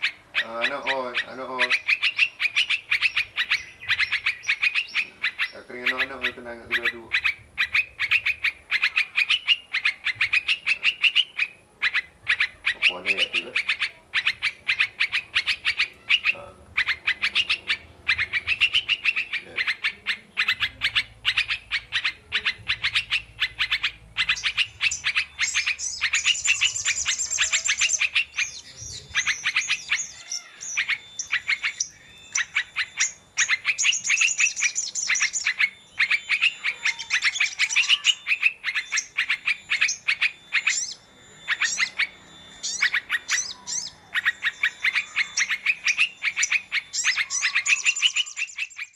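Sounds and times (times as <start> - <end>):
high bird trills: 0.0 - 48.9
small songbirds chirping: 0.0 - 48.9.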